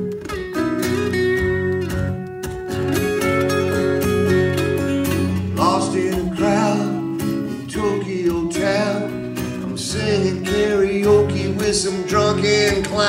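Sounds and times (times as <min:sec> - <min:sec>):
bending guitar lead line: 0:00.0 - 0:13.0
strummed acoustic guitar chords: 0:00.0 - 0:13.0.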